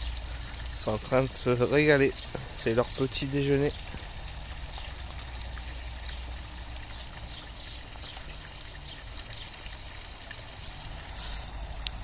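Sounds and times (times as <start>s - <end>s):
water splashing into pond: 0.0s - 12.0s.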